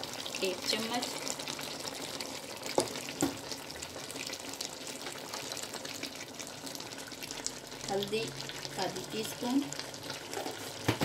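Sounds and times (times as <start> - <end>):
chicken sizzling and crackling: 0.0 - 11.0.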